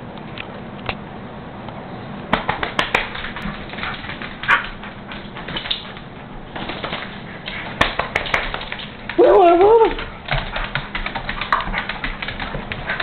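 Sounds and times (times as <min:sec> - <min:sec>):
dog claws clicking on vinyl floor: 0:02.3 - 0:13.0.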